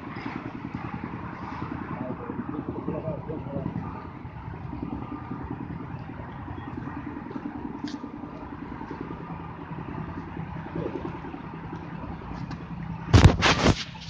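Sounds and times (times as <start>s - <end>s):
engine running: 0.0s - 14.0s
street traffic rumble: 0.0s - 14.0s.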